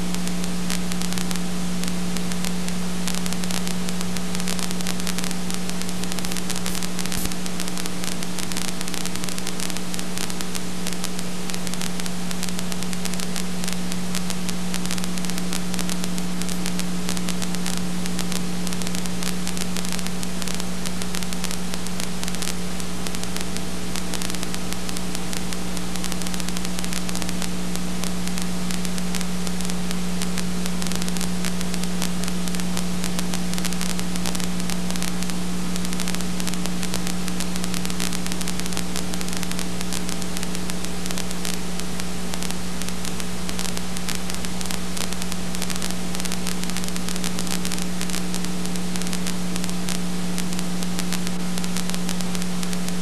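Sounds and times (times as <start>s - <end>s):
electrical hum: 0.0s - 53.0s
steady hiss: 0.0s - 53.0s.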